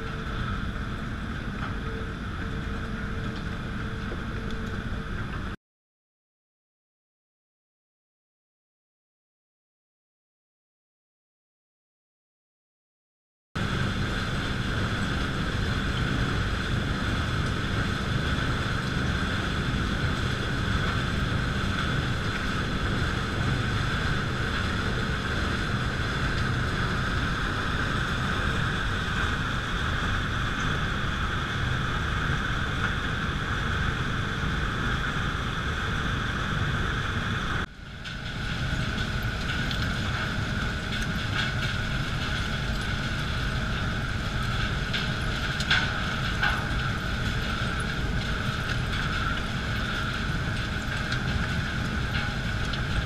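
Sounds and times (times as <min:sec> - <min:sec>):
machinery drone: 0:00.0 - 0:05.6, 0:13.6 - 0:53.0.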